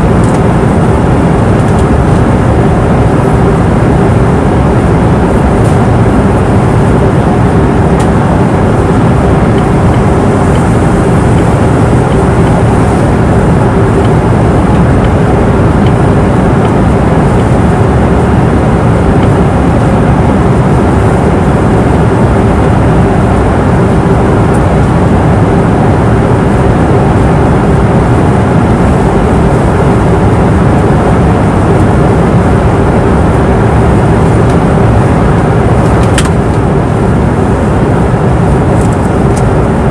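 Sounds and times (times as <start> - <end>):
airliner engine and airflow rush: 0.0 - 39.9
constant cabin hum: 0.0 - 39.9.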